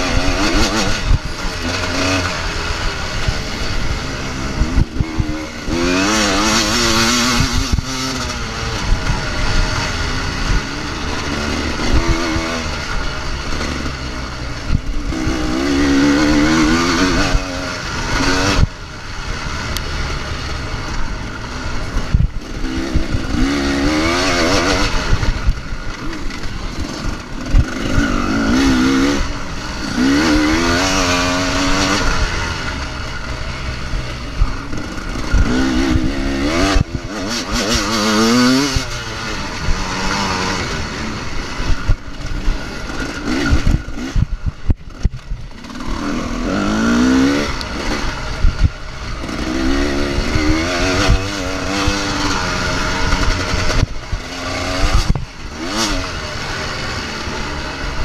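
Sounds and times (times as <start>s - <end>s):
wind rumble: 0.0s - 56.4s
motorcycle engine revving: 0.0s - 58.0s.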